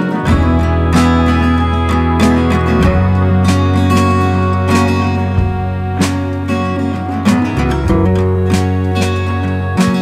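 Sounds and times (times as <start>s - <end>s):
acoustic guitar strumming: 0.0s - 10.0s
sustained chords: 0.0s - 10.0s.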